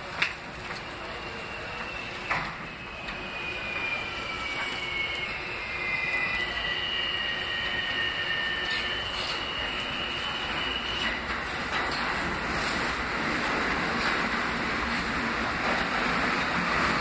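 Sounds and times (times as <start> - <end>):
subway wheels squealing: 0.0 - 17.0
train rumble: 0.0 - 17.0.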